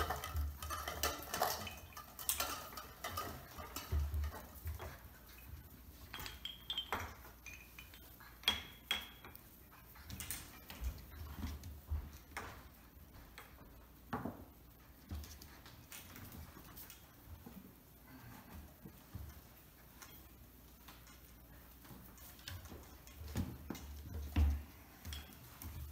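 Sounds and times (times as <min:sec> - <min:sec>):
light knocks and clinks: 0:00.0 - 0:17.5, 0:18.2 - 0:25.9.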